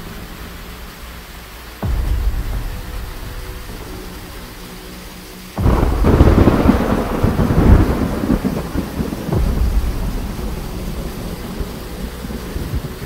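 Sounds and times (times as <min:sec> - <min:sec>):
heavy rain: 0:00.0 - 0:13.0
running floodwater: 0:00.0 - 0:13.0
thunder rumbling: 0:00.0 - 0:13.0.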